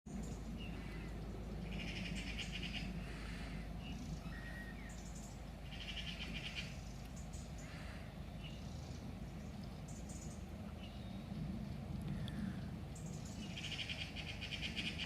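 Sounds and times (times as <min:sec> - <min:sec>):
low background hum: 0:00.1 - 0:15.0
bird harsh pulsing calls: 0:00.2 - 0:11.3, 0:12.4 - 0:15.0.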